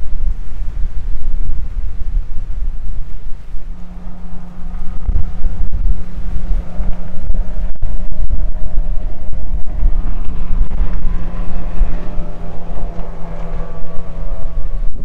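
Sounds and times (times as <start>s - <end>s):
gusty wind buffeting microphone: 0.0s - 15.0s
steady low hum: 0.0s - 15.0s.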